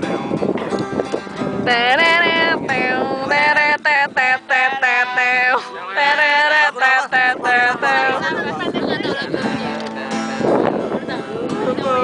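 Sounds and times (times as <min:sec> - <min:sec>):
acoustic guitar: 0:00.0 - 0:12.0
people singing pop song: 0:01.6 - 0:12.0.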